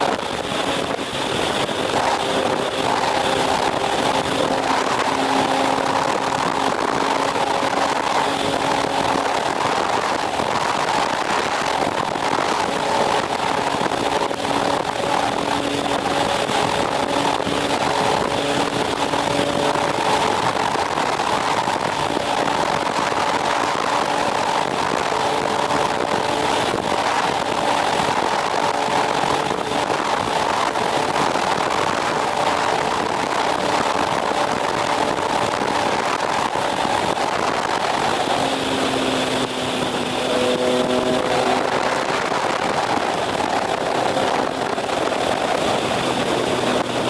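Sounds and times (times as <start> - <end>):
motorcycle engine cruising: 0.0 - 47.0
wind noise: 0.0 - 47.0.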